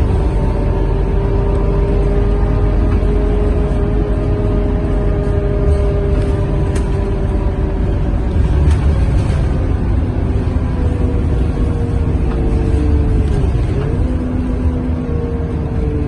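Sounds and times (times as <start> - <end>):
diesel bus engine rumbling: 0.0 - 16.0.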